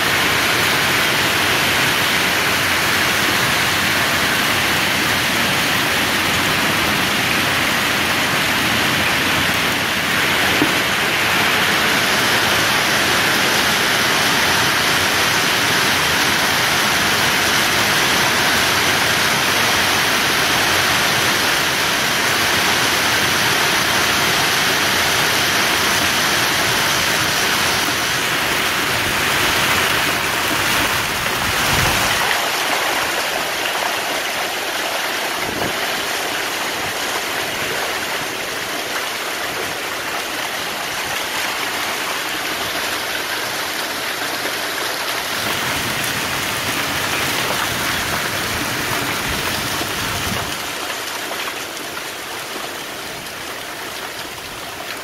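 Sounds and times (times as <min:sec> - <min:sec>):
hail and heavy rain on pavement: 0:00.0 - 0:55.0
runoff water rushing: 0:00.0 - 0:55.0.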